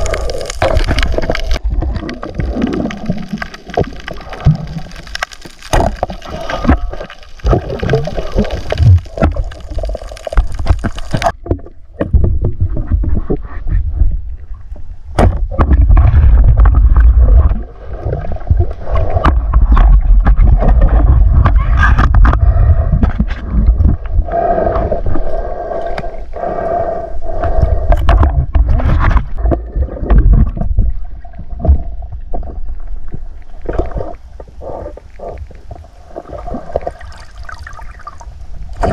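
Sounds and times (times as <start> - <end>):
underwater rumbling water: 0.0 - 38.9.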